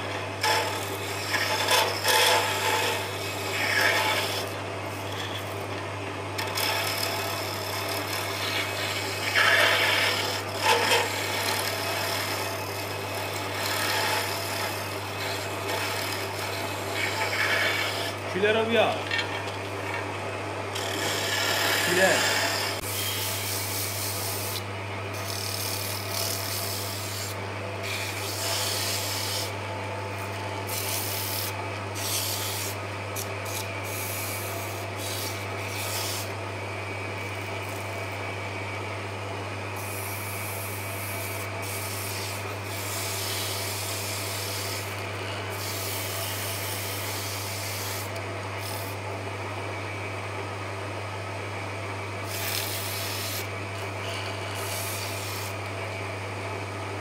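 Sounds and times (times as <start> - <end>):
wood lathe humming: 0.0 - 38.7, 39.7 - 49.2, 52.2 - 56.1.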